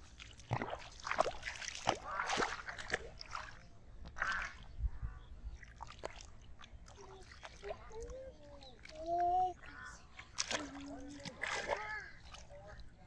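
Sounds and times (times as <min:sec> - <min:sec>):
feet wading through muddy water: 0:00.0 - 0:04.8, 0:05.5 - 0:13.0.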